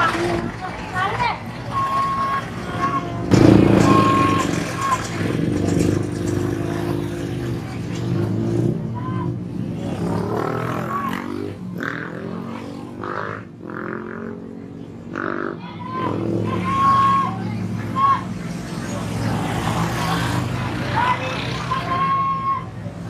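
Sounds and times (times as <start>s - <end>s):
bus engine passing: 0.0s - 23.0s
motorcycles passing: 0.0s - 23.0s
voices: 0.0s - 23.0s.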